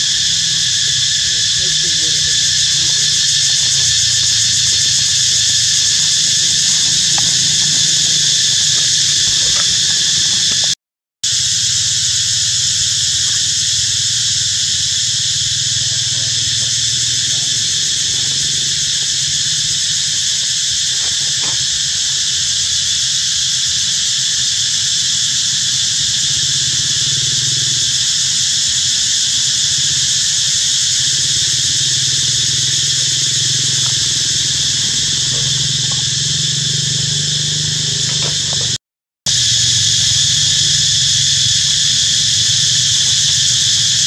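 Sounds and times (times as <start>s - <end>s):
insect chorus droning: 0.0s - 44.0s.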